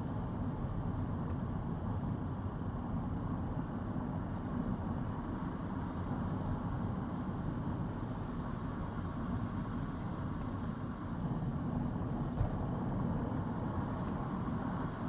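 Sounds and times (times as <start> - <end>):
car engine and tyre noise: 0.1 - 15.0.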